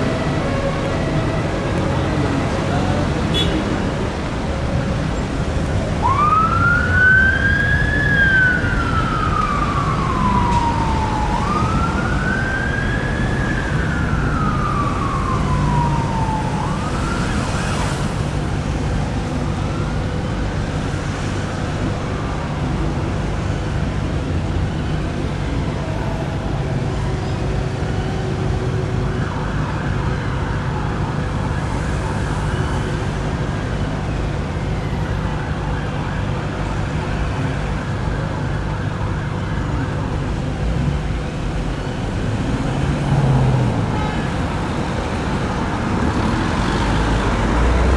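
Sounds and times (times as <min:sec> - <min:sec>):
emergency sirens wailing: 0:00.0 - 0:47.9
heavy city traffic rumble: 0:00.0 - 0:47.9.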